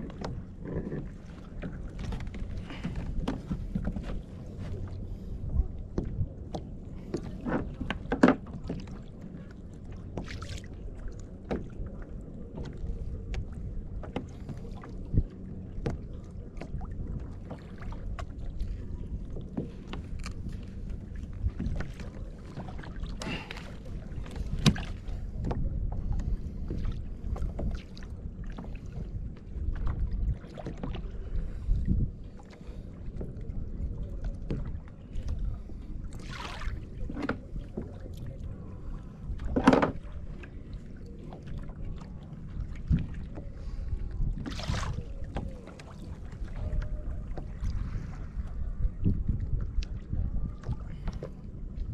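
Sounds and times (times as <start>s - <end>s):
water and wind rumble: 0.0s - 51.9s.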